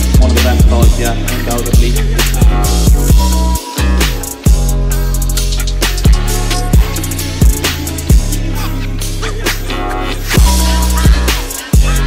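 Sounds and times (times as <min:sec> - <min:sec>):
heavy bass line: 0:00.0 - 0:12.0.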